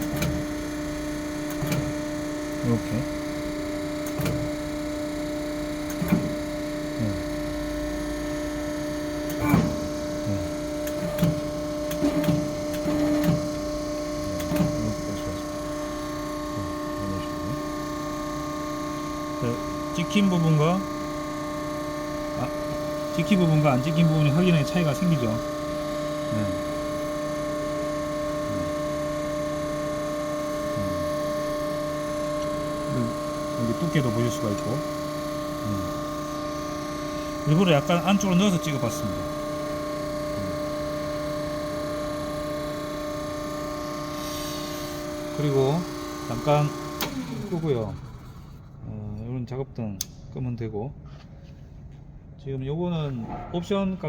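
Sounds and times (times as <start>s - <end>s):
hydraulic power unit humming: 0.0s - 54.0s.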